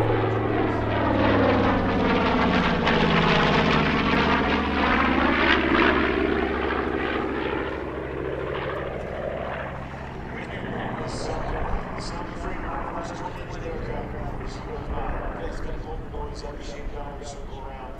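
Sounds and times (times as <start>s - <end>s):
propeller plane engines droning: 0.0s - 17.9s.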